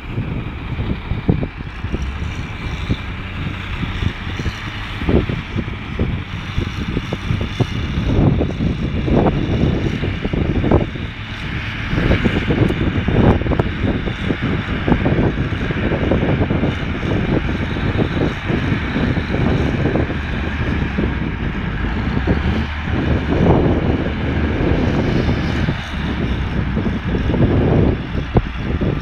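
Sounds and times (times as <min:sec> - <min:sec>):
diesel engine running: 0:00.0 - 0:29.0
wind buffeting microphone: 0:00.0 - 0:29.0.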